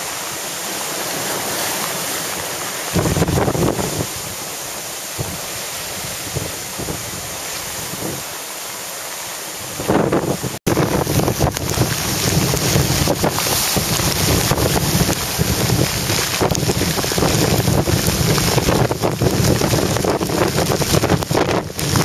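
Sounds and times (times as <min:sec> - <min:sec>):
surf pounding on rocks: 0:00.0 - 0:08.4, 0:09.6 - 0:22.0
strong wind gusting: 0:01.2 - 0:08.3, 0:09.6 - 0:22.0.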